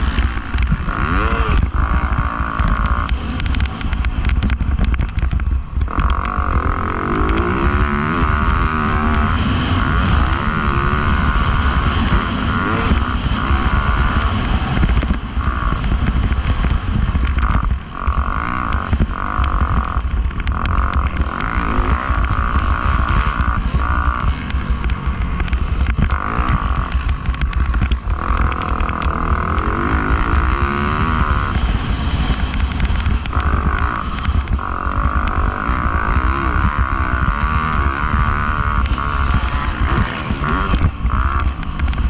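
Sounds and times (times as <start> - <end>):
dirt bike engine revving: 0.0 - 42.0
wind buffeting microphone: 0.0 - 42.0.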